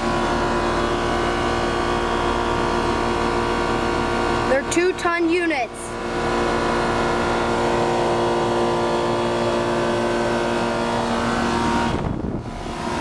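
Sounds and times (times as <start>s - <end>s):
air conditioner units humming: 0.0s - 13.0s.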